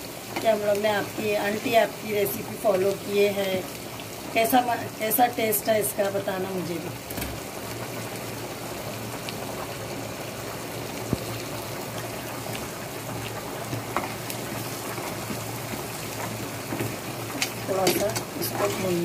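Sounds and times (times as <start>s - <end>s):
food bubbling in oil: 0.0s - 19.0s.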